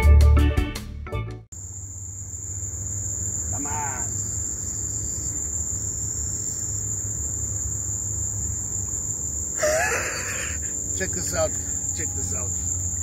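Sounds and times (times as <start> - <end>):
high-pitched insect trill: 1.6 - 13.0.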